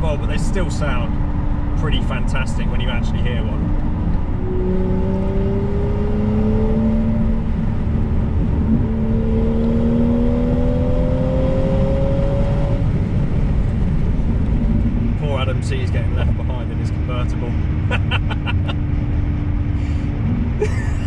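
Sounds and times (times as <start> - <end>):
car exhaust droning: 0.0 - 21.0
tyre and road noise: 0.0 - 21.0.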